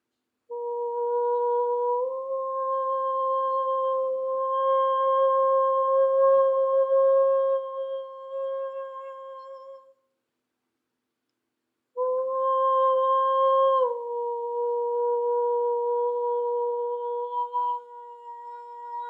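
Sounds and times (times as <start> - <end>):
person humming long notes: 0.5 - 9.8, 12.0 - 19.0.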